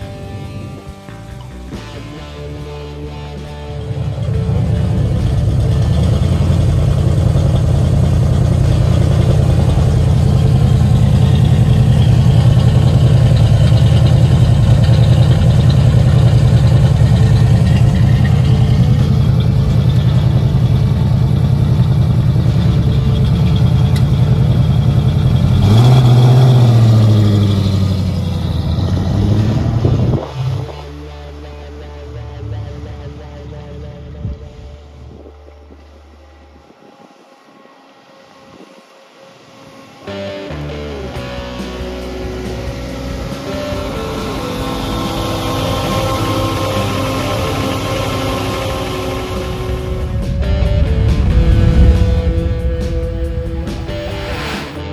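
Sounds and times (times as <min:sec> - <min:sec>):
car engine idling: 0:00.0 - 0:54.9
car engine revving: 0:00.0 - 0:54.9.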